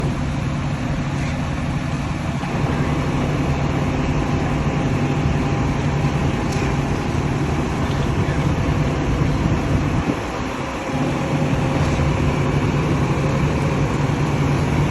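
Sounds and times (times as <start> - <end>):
diesel truck engines running: 0.0 - 14.9.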